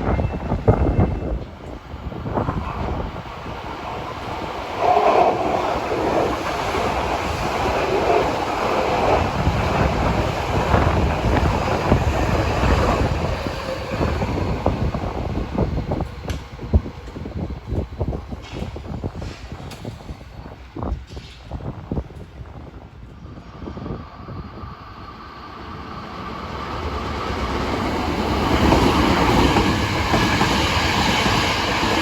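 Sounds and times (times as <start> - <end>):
electric train passing: 0.0 - 32.0
wind buffeting microphone: 0.0 - 32.0.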